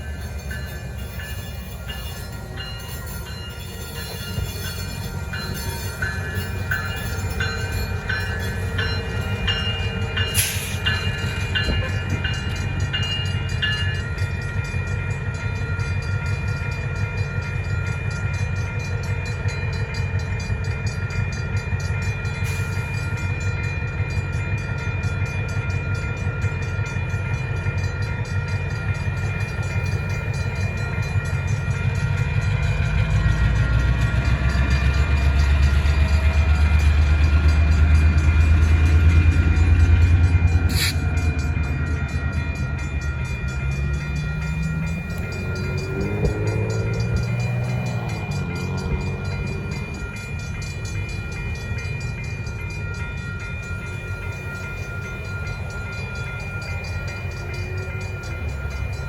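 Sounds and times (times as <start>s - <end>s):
crossing bell ringing: 0.0s - 59.0s
diesel locomotive engines rumbling: 0.0s - 59.0s.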